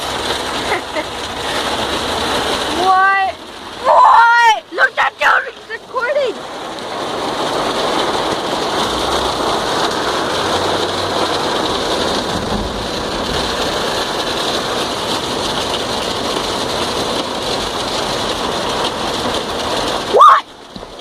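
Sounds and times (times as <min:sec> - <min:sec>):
heavy rain on a car: 0:00.0 - 0:21.0.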